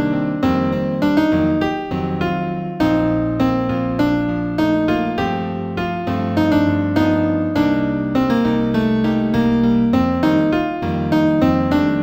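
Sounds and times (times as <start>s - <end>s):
new-age piano piece: 0.0s - 12.0s.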